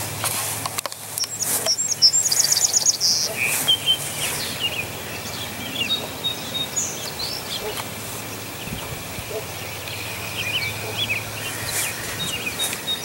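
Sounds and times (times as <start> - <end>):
small birds chirping: 0.9 - 13.0.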